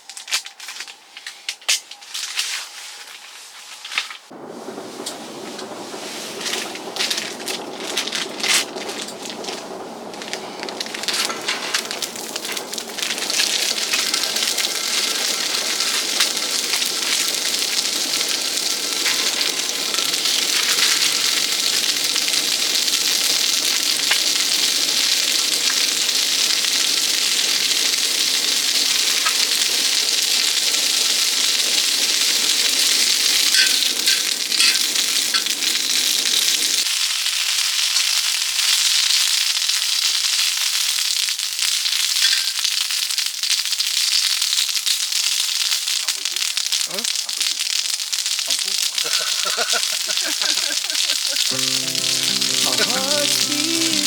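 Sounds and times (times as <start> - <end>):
food sizzling in a pan: 7.1 - 54.0.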